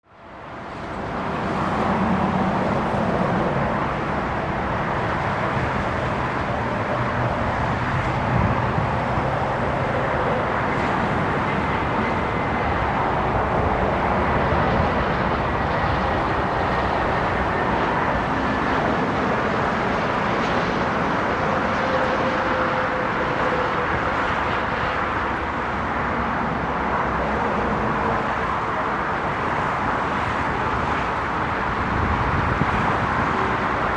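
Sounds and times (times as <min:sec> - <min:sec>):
jet aircraft engines: 0:00.1 - 0:33.9.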